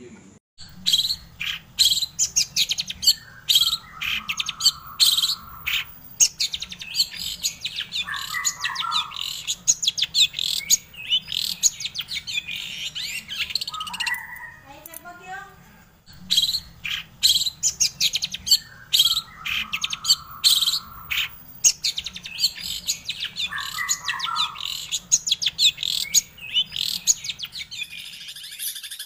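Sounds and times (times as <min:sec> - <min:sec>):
bird chattering song: 0:00.6 - 0:29.0.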